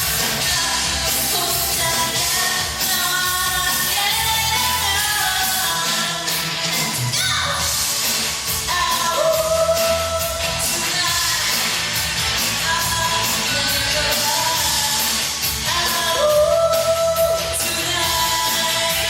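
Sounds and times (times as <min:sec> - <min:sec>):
band backing music: 0:00.0 - 0:19.0
person singing rock song: 0:00.0 - 0:19.0.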